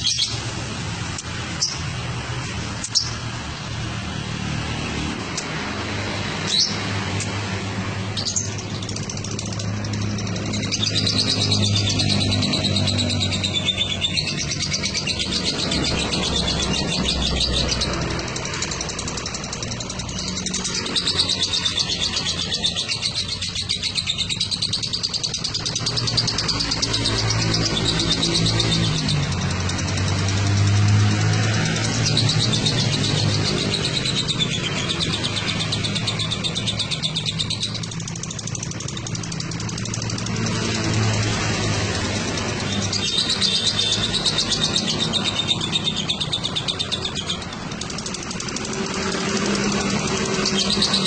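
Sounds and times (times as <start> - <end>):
lovebird chattering trill: 0.0 - 3.4, 5.2 - 51.0.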